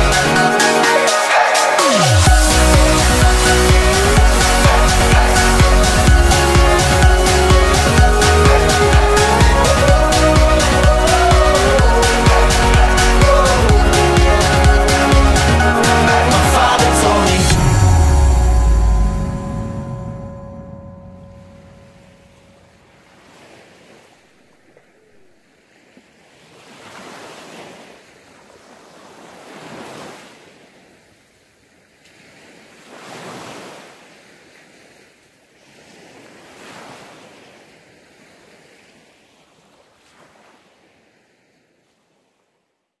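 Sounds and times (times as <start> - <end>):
waves breaking on beach: 0.0 - 19.9, 21.7 - 42.6.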